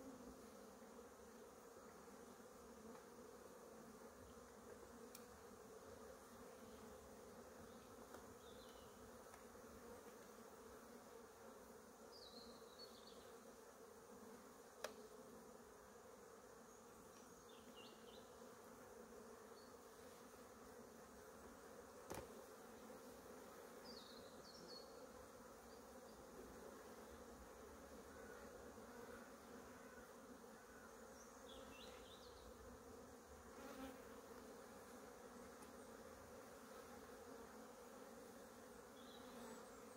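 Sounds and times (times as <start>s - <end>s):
honeybees humming: 0.0s - 39.9s.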